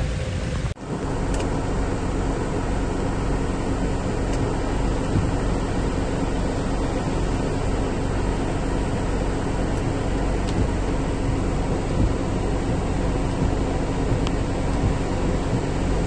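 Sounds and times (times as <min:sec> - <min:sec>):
heavy rain on car roof: 0:00.0 - 0:16.0
low hum of moving car: 0:00.0 - 0:16.0.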